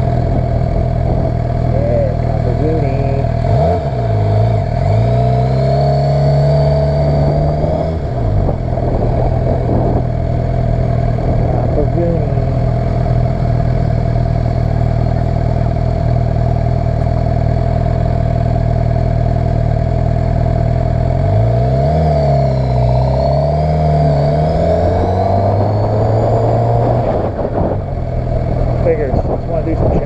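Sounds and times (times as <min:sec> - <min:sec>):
motorcycle engine pulling away: 0:03.2 - 0:11.8, 0:12.5 - 0:29.6.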